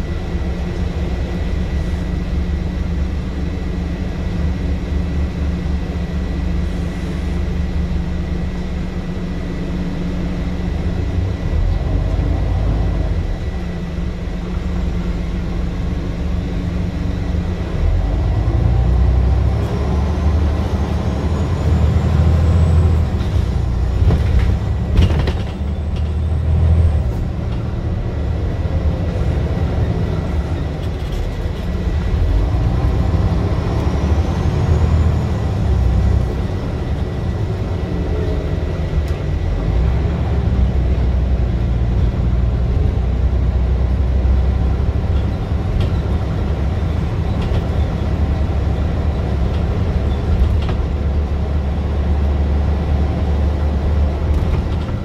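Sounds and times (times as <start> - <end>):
bus engine droning: 0.0 - 55.0.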